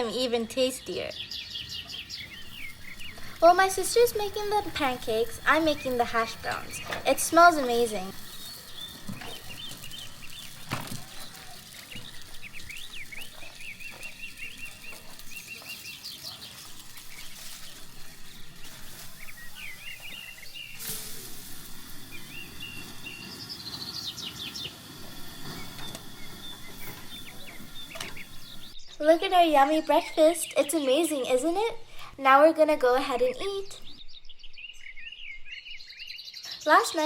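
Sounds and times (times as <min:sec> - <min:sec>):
steady background hiss: 0:00.0 - 0:33.6
songbirds chirping and trilling: 0:00.0 - 0:37.0.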